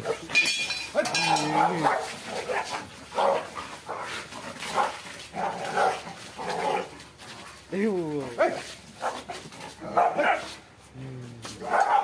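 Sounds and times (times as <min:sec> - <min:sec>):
dogs fighting and barking: 0:00.0 - 0:12.0.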